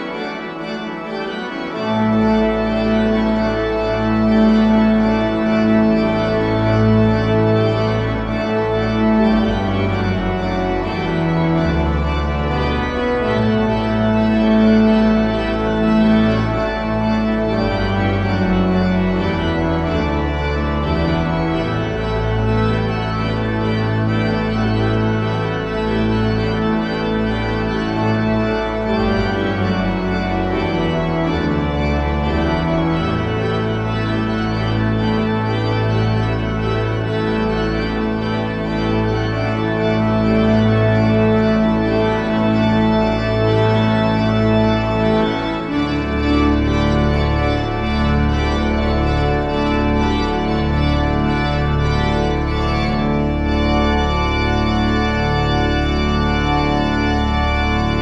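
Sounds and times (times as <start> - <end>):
pipe organ chords: 0.0 - 58.0.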